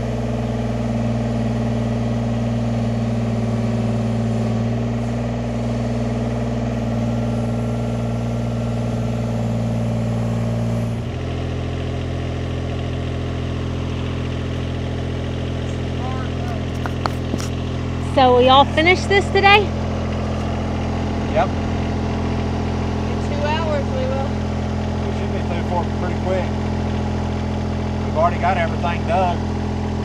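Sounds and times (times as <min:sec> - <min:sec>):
excavator diesel engine idling: 0:00.0 - 0:30.0.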